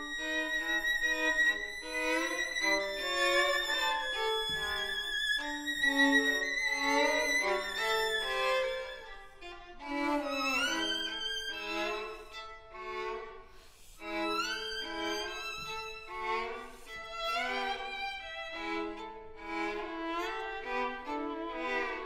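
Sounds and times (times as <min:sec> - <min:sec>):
violin duet: 0:00.0 - 0:22.0.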